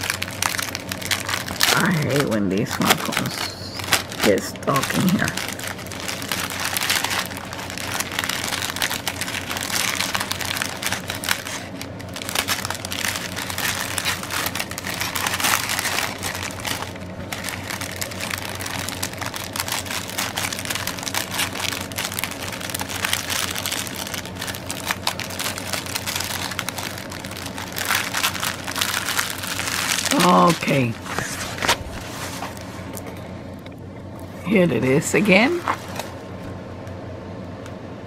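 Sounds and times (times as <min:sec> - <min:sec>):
plastic bags crinkling: 0:00.0 - 0:33.3, 0:34.1 - 0:36.5.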